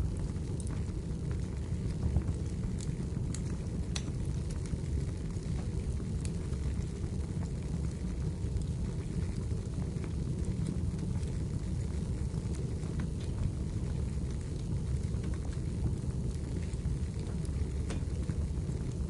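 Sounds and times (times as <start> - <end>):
fire rumbling: 0.0 - 19.0
firewood crackling and popping: 0.0 - 19.0.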